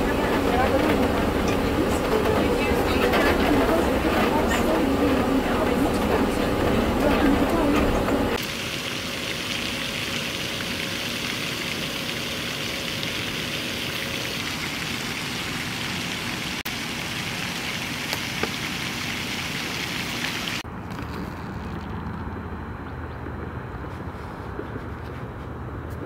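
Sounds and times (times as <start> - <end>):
fountain water jet splashing: 0.0 - 22.2.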